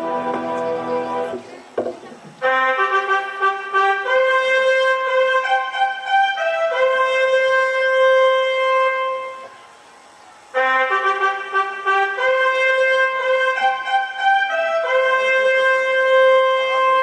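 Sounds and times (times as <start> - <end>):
slow wind instrument melody: 0.0 - 1.4, 2.4 - 17.0.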